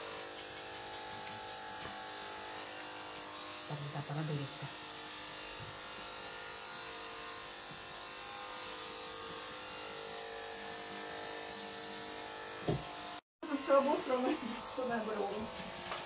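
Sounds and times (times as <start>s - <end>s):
electric pet hair trimmer buzzing: 0.0s - 16.0s.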